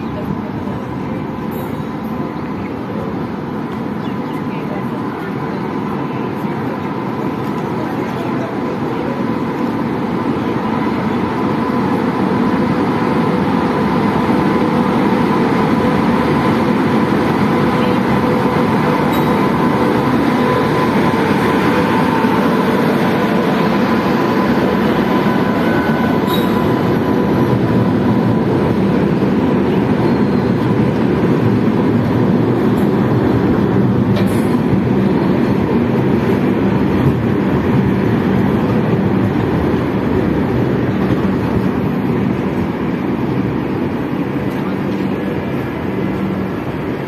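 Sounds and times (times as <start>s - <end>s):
train wheels rumbling on rail: 0.0s - 47.0s
steady whine: 4.7s - 47.0s.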